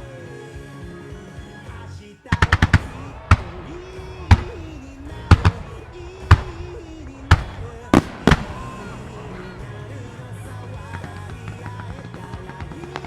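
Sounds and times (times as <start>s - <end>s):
music playing: 0.0s - 13.0s
firework bursts: 2.3s - 13.0s.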